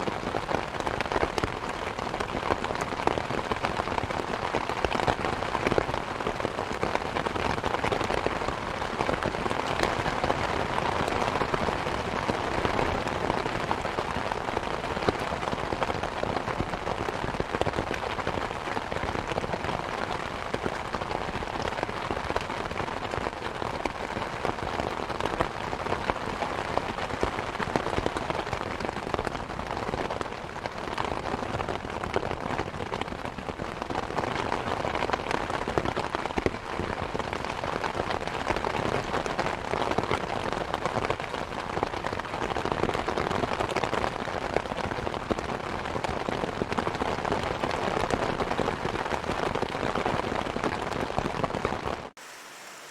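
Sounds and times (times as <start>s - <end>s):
rain on a hard surface: 0.0s - 52.9s.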